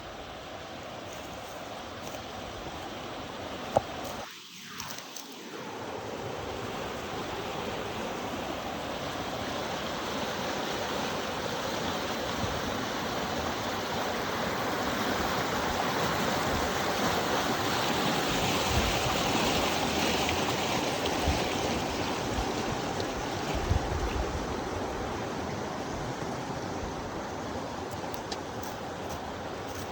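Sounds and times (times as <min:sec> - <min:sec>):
creek water rushing: 0:00.0 - 0:29.9.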